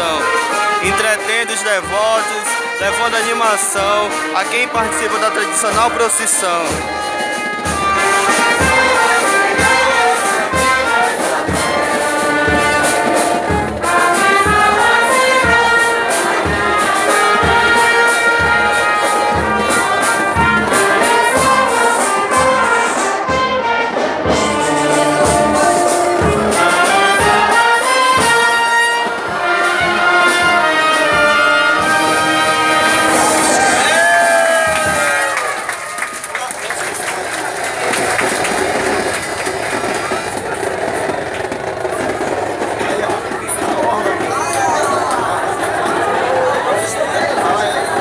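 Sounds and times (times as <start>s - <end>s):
drum beat thumps: 0.0s - 35.5s, 37.5s - 48.0s
brass band playing: 0.0s - 48.0s.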